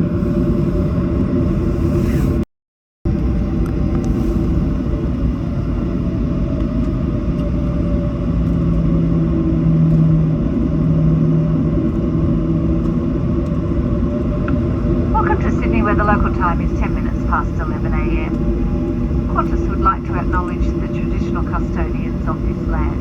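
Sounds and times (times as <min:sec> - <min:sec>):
jet engines rumbling: 0:00.0 - 0:02.4, 0:03.1 - 0:23.0
low hum: 0:00.0 - 0:02.4, 0:03.1 - 0:23.0.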